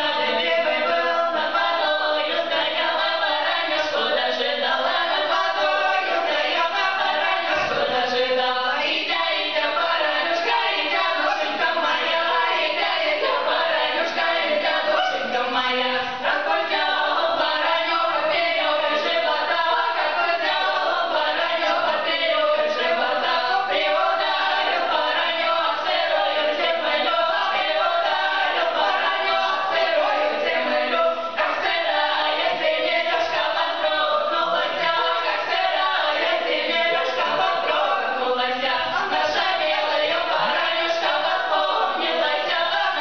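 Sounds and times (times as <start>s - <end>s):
women singing a cappella folk song: 0.0s - 43.0s.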